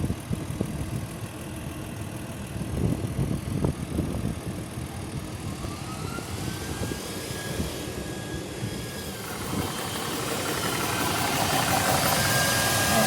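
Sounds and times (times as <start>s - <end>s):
air compressor whining: 0.1s - 13.0s.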